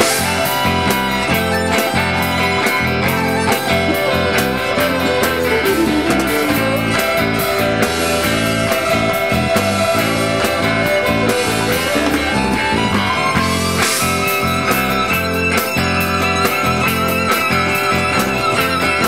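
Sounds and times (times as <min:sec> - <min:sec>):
drum kit beat: 0:00.0 - 0:18.5
bowed violin: 0:00.0 - 0:19.0
guitar: 0:00.0 - 0:19.0.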